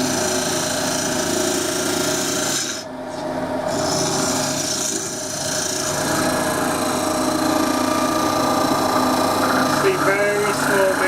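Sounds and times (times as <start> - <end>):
turning tool scraping wood: 0.0 - 2.9, 3.7 - 11.0
wood lathe hum: 0.0 - 2.9, 3.6 - 11.0.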